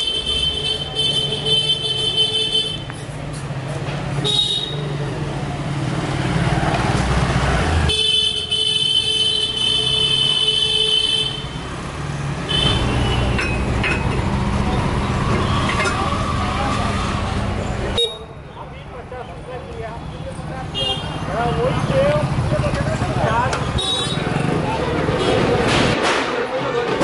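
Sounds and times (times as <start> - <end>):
street traffic noise: 0.0 - 27.0.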